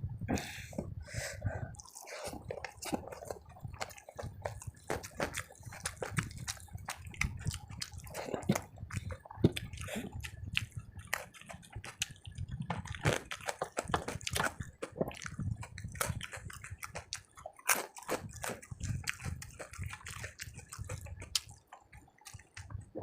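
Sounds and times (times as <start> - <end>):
person chewing food: 0.6 - 23.0.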